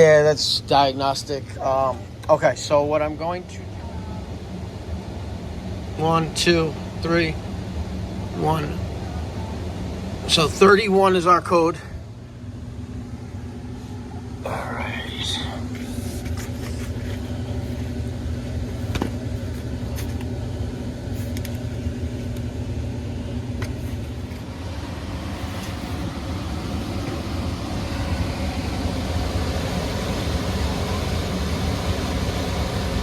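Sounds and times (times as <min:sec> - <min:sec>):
furnace low hum: 0:00.0 - 0:33.0.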